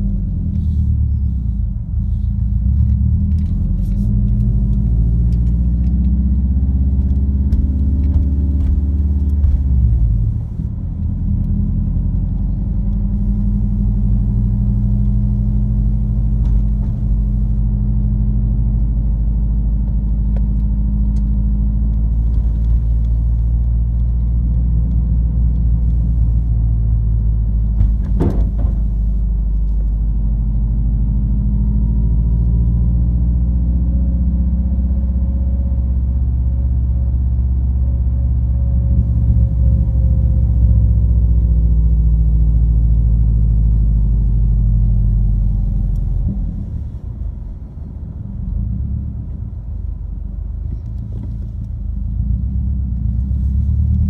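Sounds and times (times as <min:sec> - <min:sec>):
car exhaust drone in cabin: 0:00.0 - 0:54.0.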